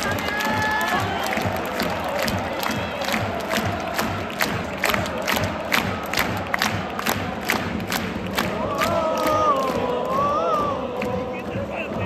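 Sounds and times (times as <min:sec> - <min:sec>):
crowd chanting and cheering: 0:00.0 - 0:12.0
drum beat: 0:00.0 - 0:12.0
people clapping: 0:00.0 - 0:12.0.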